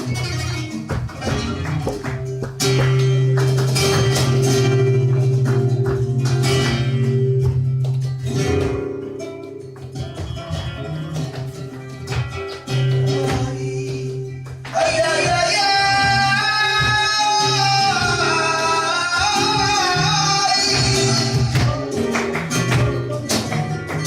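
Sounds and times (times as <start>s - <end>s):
flamenco guitar music: 0.0s - 24.0s.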